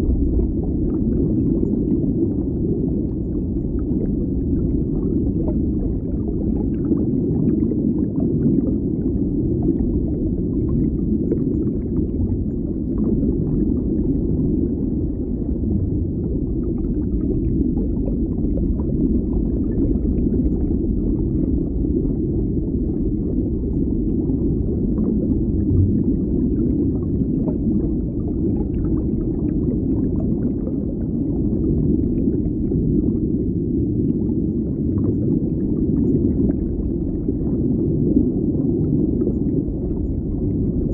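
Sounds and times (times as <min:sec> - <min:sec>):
low underwater rumble: 0:00.0 - 0:40.9.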